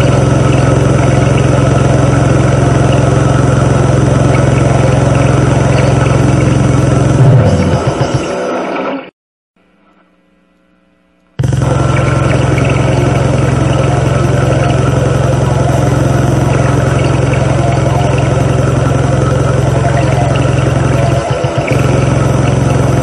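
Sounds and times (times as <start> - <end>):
distorted noise wall with low drone: 0.0 - 23.0.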